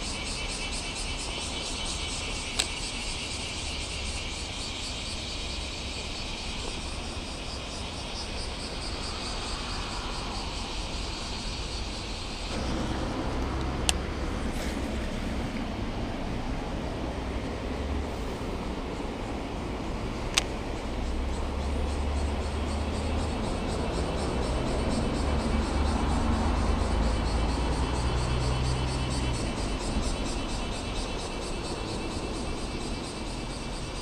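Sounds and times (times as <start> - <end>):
distant road traffic: 0.0 - 34.0
wind rumble: 5.3 - 34.0.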